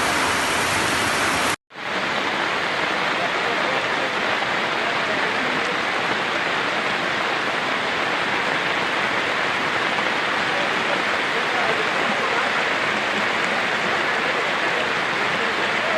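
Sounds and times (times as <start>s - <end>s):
floodwater flowing: 0.0s - 15.9s
heavy rain: 0.0s - 15.9s.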